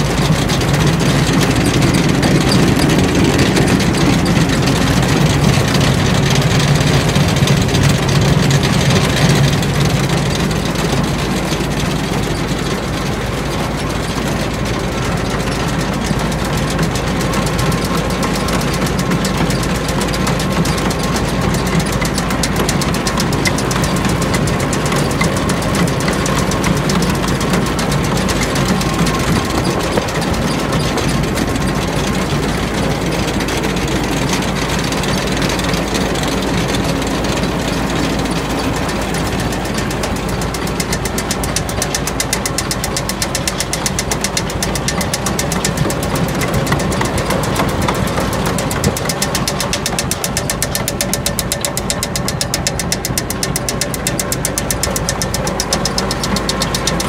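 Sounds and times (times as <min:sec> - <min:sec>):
engine running with ticking: 0:00.0 - 0:57.0.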